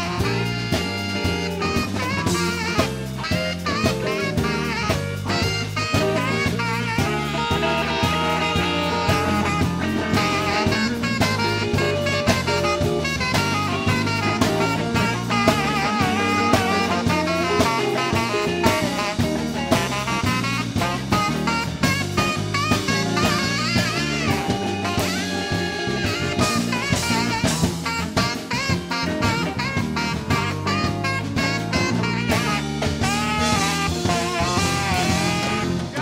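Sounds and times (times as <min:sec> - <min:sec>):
electric guitar lead with bent notes: 0:00.0 - 0:36.0
steady drums: 0:00.0 - 0:36.0
stepping bass line: 0:00.0 - 0:36.0.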